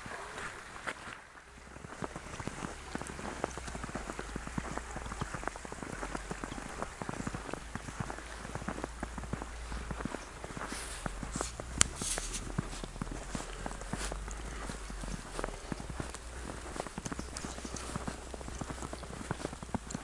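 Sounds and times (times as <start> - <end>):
creek trickling over stones: 0.0 - 20.0.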